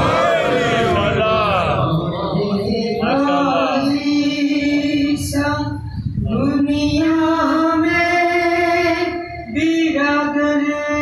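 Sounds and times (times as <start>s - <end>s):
man singing into a microphone: 0.8s - 11.0s.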